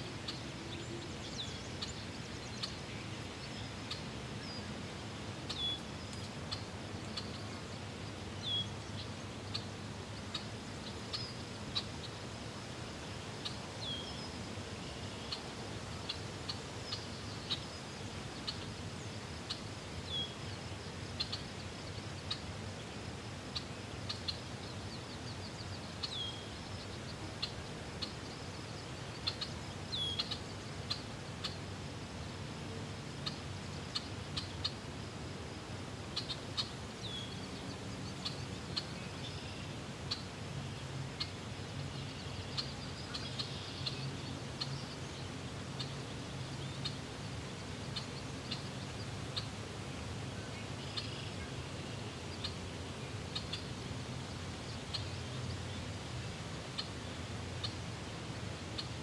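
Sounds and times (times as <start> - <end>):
small birds chirping: 0.0 - 12.3, 12.9 - 59.0
low background noise: 0.0 - 59.0.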